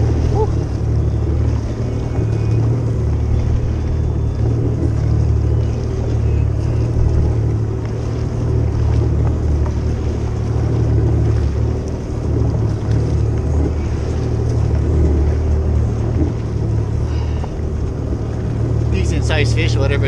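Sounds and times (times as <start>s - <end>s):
jet ski engine idling: 0.0s - 20.0s
water sloshing against hull: 0.0s - 20.0s.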